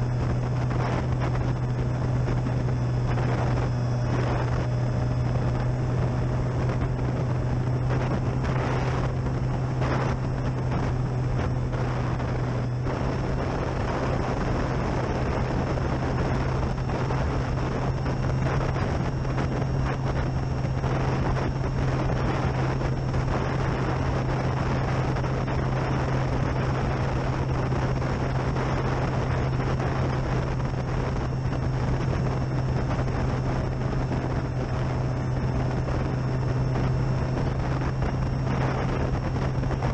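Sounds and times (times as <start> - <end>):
faint high motor whine: 0.0 - 39.9
model plane propeller droning: 0.0 - 39.9
wind buffeting microphone: 0.0 - 39.9.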